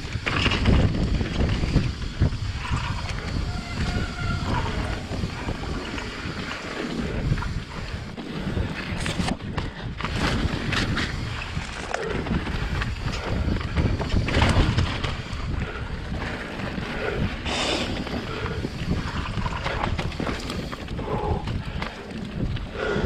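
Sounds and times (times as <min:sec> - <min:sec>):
bike clattering: 0:00.0 - 0:23.0
bike tyres rumbling: 0:00.0 - 0:23.0
wind rushing over microphone: 0:00.0 - 0:23.0.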